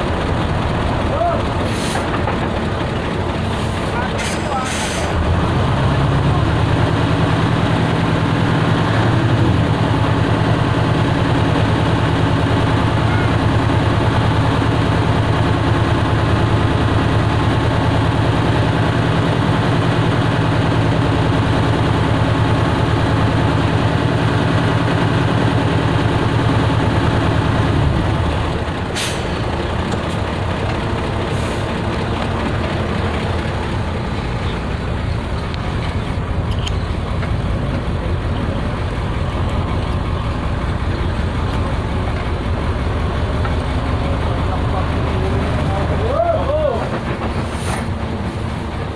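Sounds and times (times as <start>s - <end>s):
heavy engine droning: 0.0s - 48.9s.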